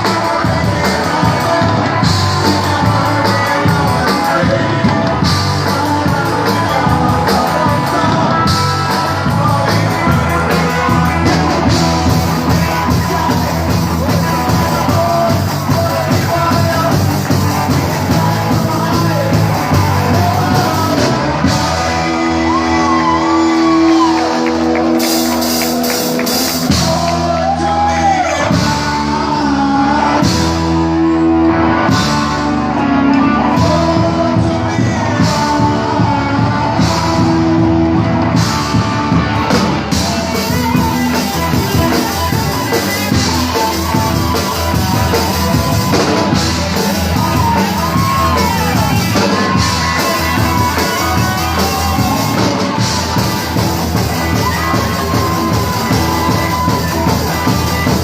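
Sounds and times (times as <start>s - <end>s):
live rock band playing: 0.0s - 58.0s
singer shouting: 0.0s - 58.0s.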